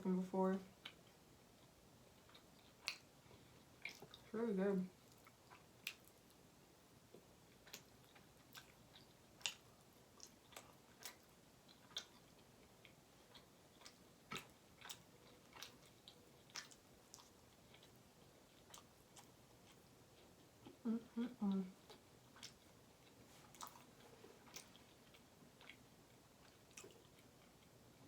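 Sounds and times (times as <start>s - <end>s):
chewing mouth clicks and smacks: 1.6s - 3.1s, 3.8s - 4.2s, 5.0s - 6.3s, 7.1s - 20.8s, 21.9s - 27.7s.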